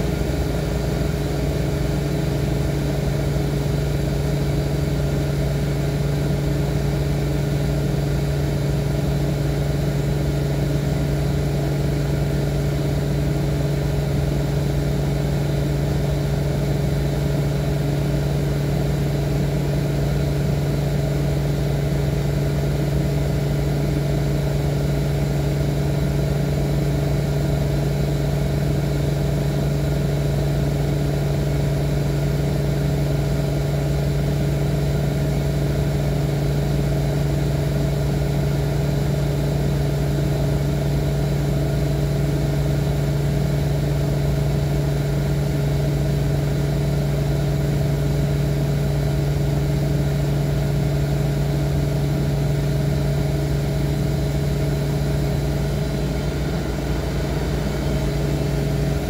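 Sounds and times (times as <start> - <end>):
small appliance electric hum: 0.0 - 59.0.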